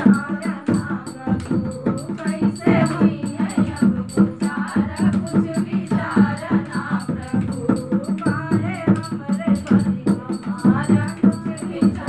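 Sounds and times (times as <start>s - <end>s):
rattling hand percussion: 0.0s - 12.0s
women singing devotional song: 0.0s - 12.0s.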